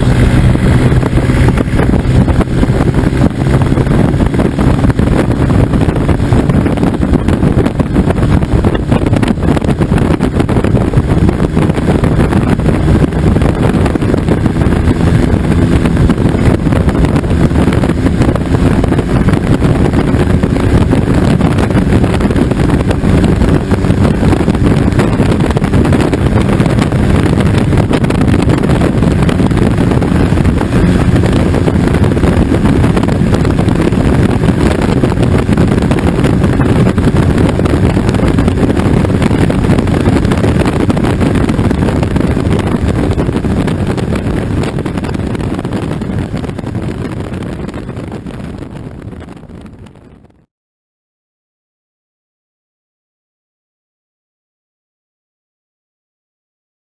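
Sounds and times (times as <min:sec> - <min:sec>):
diesel engine running: 0:00.0 - 0:49.8
wind noise on microphone: 0:00.0 - 0:50.5.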